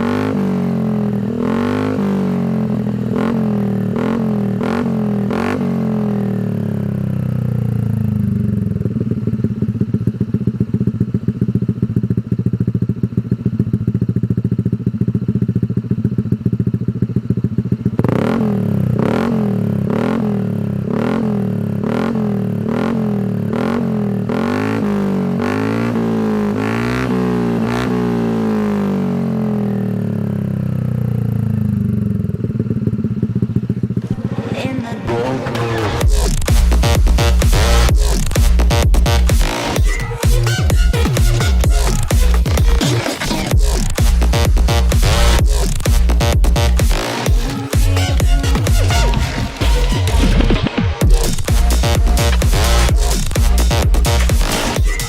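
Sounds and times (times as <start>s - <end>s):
scooter engine rev blips: 0.0s - 14.4s, 15.5s - 29.8s, 30.8s - 55.0s
scooter engine idling: 0.0s - 55.0s.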